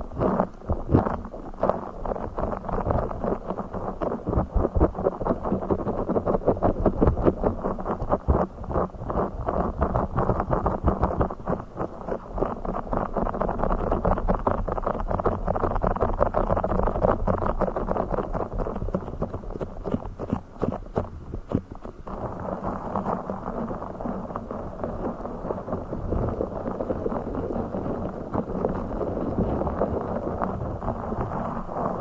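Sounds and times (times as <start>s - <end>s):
scratching and rubbing crackle: 0.0s - 32.0s.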